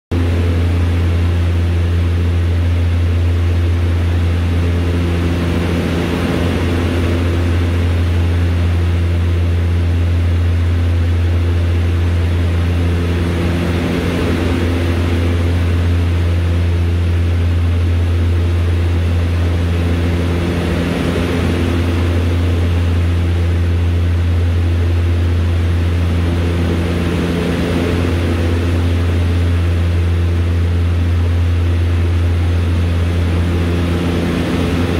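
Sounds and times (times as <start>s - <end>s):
higher pulsing hum: 0.1s - 34.9s
turboprop engine drone: 0.1s - 34.9s.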